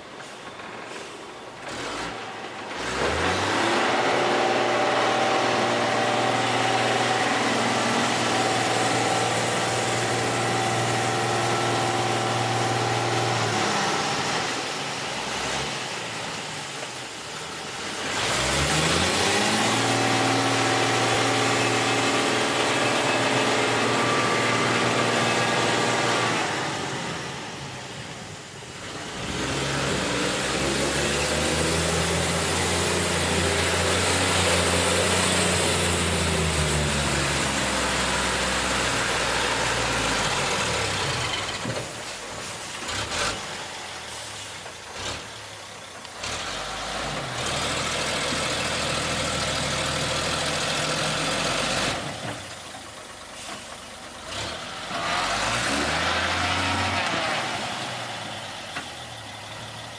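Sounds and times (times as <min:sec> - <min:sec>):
diesel truck engine revving: 0:00.2 - 0:59.9.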